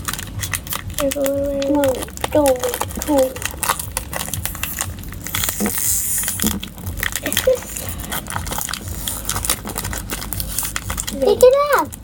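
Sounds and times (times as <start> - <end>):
crackles of handling: 0.0 - 12.0
rustling: 0.0 - 12.0.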